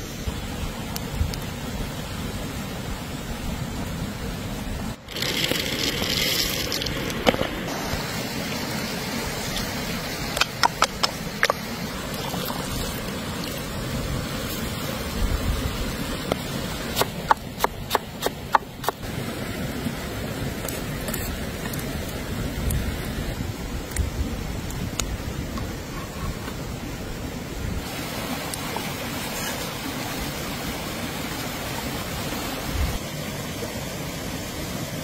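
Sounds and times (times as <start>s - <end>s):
creek rushing: 0.0s - 23.7s, 25.3s - 35.0s.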